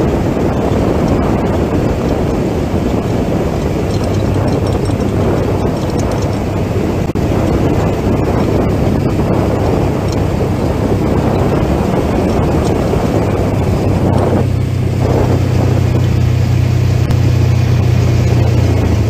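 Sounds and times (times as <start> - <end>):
road and wind rush: 0.0 - 19.0
vehicle engine drone: 0.0 - 19.0.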